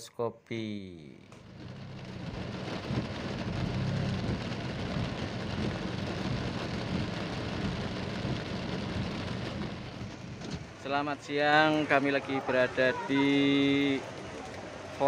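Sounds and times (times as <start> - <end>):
heavy rain drumming on car: 1.3 - 15.0.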